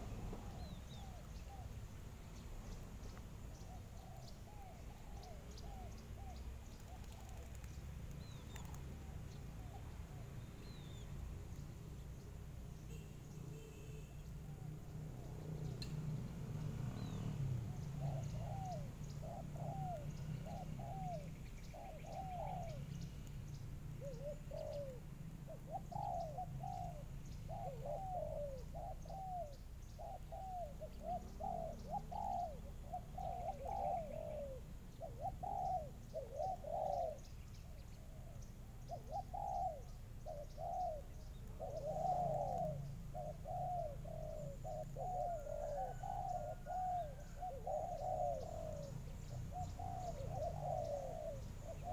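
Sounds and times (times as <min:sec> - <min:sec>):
doves cooing: 0:00.0 - 0:11.6, 0:16.6 - 0:51.9.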